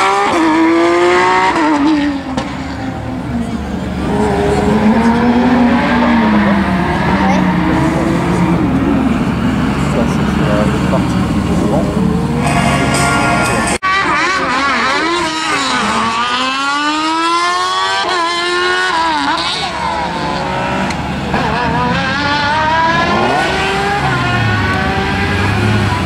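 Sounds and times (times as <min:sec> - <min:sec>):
race car engine accelerating: 0:00.0 - 0:26.0.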